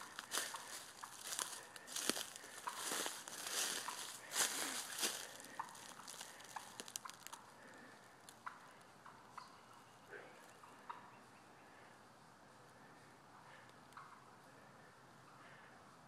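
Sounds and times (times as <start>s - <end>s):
turkey alarm calls: 0.0s - 15.8s.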